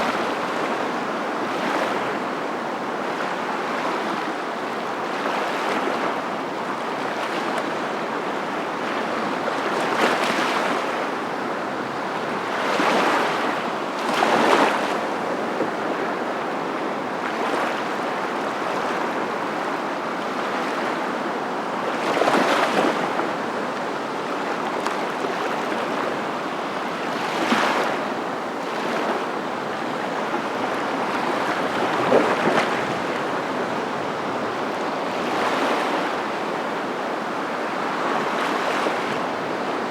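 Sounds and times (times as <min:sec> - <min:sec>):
ocean waves breaking: 0:03.0 - 0:39.9.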